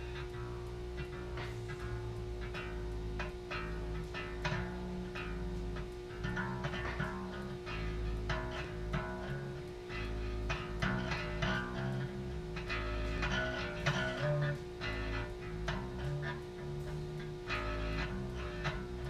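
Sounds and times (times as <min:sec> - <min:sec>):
guitar music with bass line: 0:00.0 - 0:19.0.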